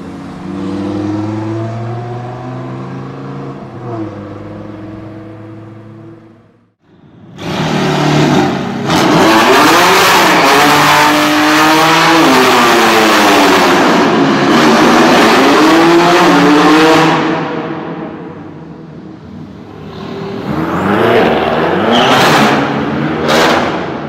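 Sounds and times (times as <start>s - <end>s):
car engine revving loudly: 0.0s - 6.3s, 7.4s - 17.8s, 20.0s - 24.0s.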